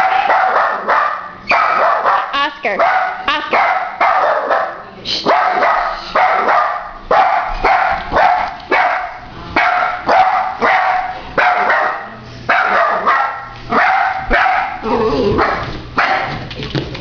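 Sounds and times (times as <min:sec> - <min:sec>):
dog barking sharply: 0:00.0 - 0:14.8, 0:15.4 - 0:16.4.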